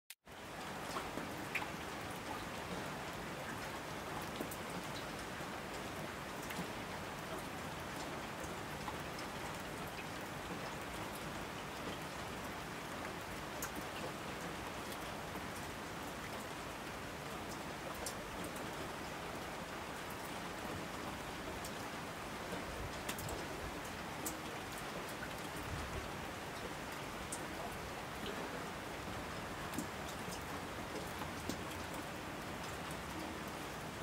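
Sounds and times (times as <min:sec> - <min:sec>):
steady rain falling: 0:00.2 - 0:34.0.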